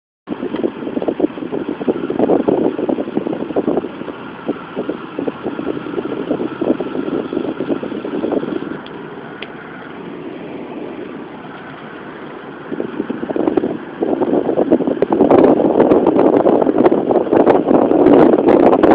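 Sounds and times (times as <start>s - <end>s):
road and engine noise: 0.3s - 18.9s.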